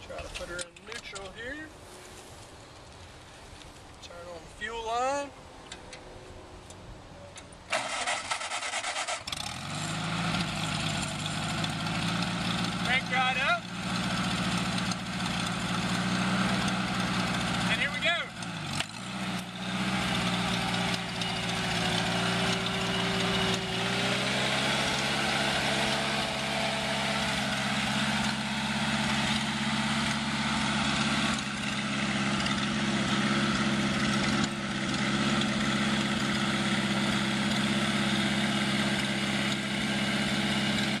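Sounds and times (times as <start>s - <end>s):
tractor engine idling: 7.7s - 41.0s.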